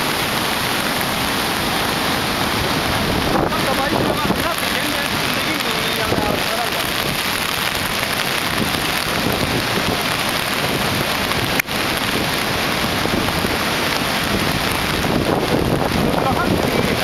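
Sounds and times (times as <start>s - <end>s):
river floodwater rushing: 0.0s - 17.0s.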